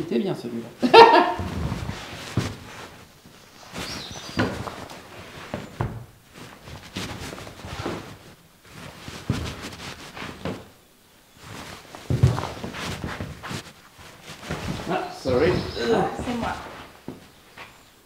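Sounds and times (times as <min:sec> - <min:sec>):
footsteps on chipboard floor: 0:01.2 - 0:17.9
shoe scuffs: 0:01.2 - 0:17.9.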